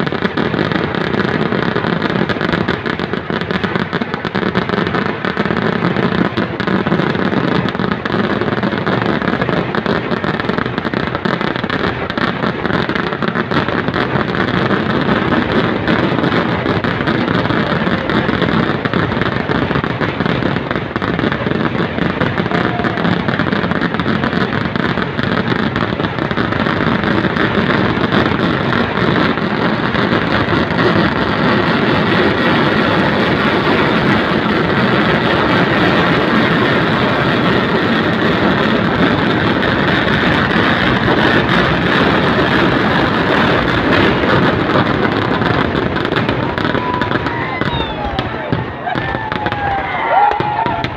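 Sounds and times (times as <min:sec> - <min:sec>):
firecrackers in dense barrage: 0:00.0 - 0:50.9.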